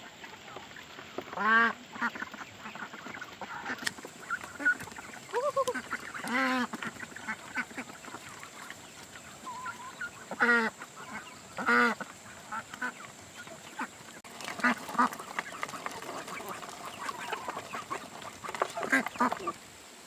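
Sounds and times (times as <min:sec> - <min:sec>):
ducks quacking: 0:00.0 - 0:19.6.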